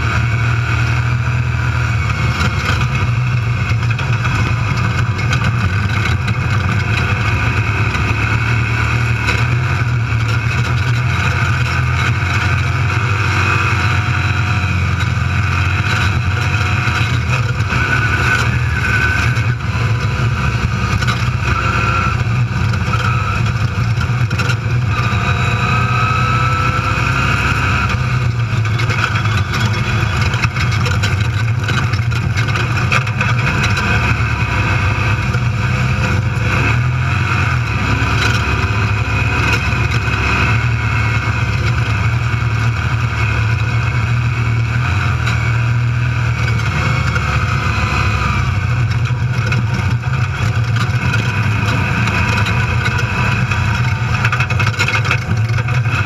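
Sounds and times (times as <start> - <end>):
knocks and rattles over rough dirt: 0.0 - 56.0
vehicle engine running hard: 0.0 - 56.0.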